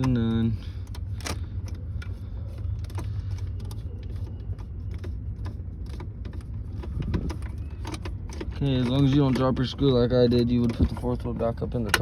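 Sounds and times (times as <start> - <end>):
plastic dashboard parts clicking: 0.0 - 12.0.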